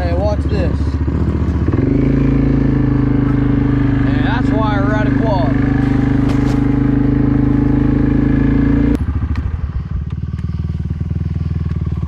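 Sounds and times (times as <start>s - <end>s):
atv engine revving and idling: 0.0s - 12.0s.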